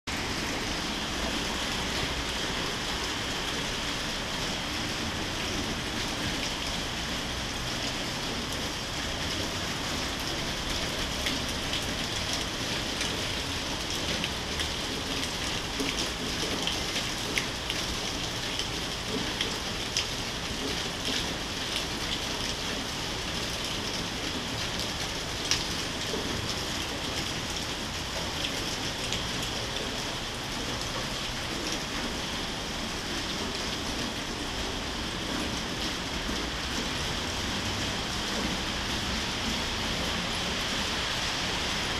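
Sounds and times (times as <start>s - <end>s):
steady rain falling: 0.1s - 41.9s.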